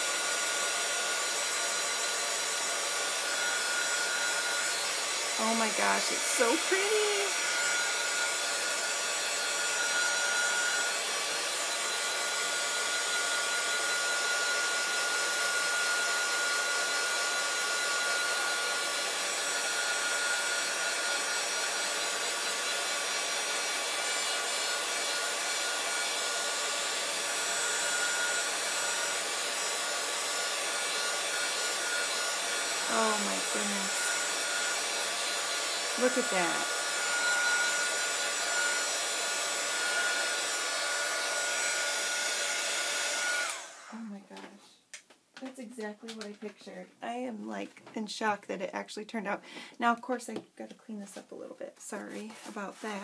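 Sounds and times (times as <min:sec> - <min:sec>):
heat gun blowing air: 0:00.0 - 0:44.0.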